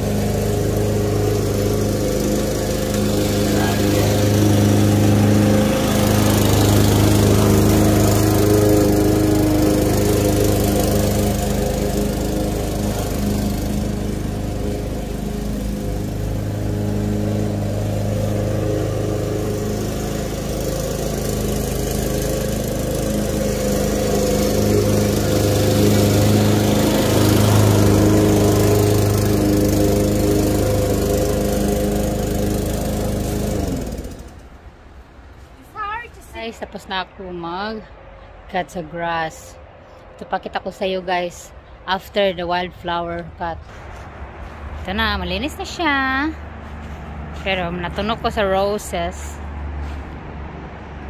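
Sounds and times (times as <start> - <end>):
lawn mower engine running: 0.0 - 36.6, 41.3 - 51.0.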